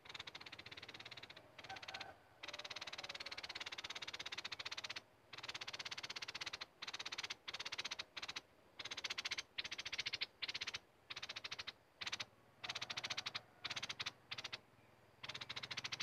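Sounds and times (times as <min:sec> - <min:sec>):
small bird rattling trills: 0:00.0 - 0:16.0.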